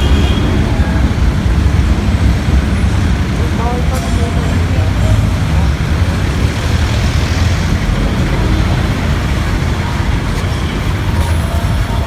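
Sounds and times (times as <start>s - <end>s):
heavy traffic rumble: 0.0s - 12.0s.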